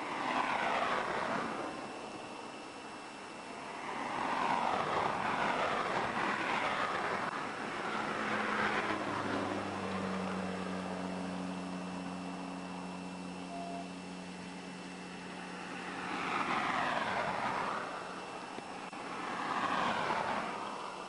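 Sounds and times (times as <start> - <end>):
low engine hum: 0.0 - 21.0
vehicle passing on road: 0.0 - 21.0.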